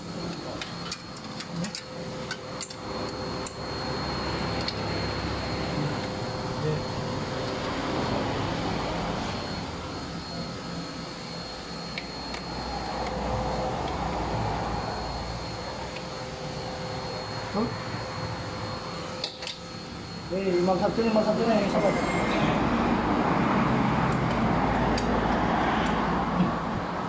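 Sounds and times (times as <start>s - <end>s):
background hum with high whine: 0.0s - 27.0s.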